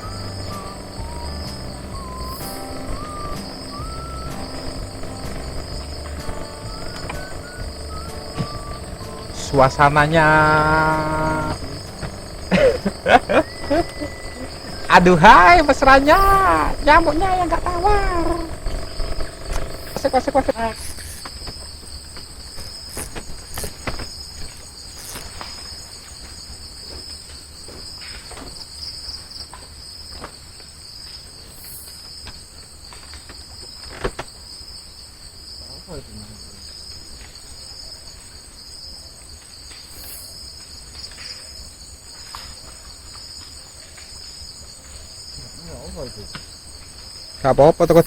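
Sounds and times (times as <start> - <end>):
night insects trilling: 0.0 - 48.0.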